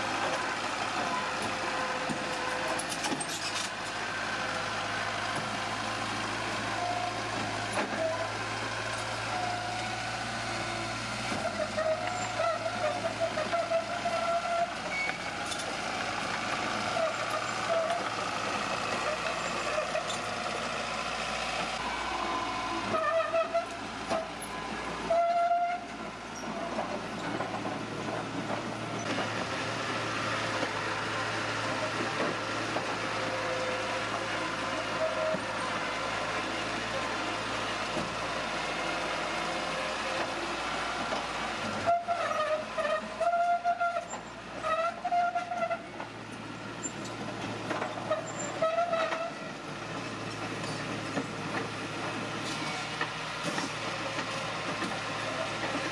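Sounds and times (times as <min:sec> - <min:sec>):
bulldozer diesel engine: 0:00.0 - 0:55.9
squealing crawler tracks: 0:00.0 - 0:55.9.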